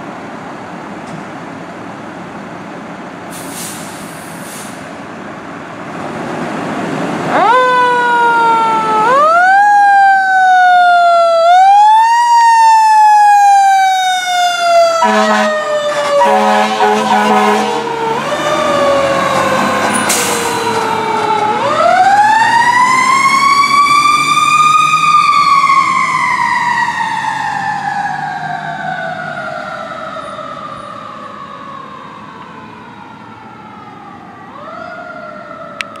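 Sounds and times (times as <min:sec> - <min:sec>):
fire engine siren wailing: 0:07.0 - 0:36.0.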